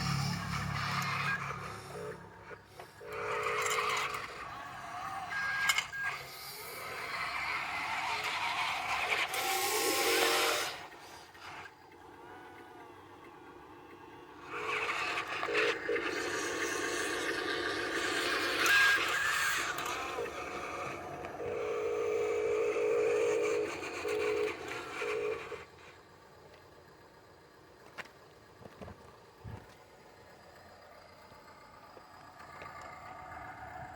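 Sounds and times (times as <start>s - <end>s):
truck engine humming: 0.0s - 33.9s.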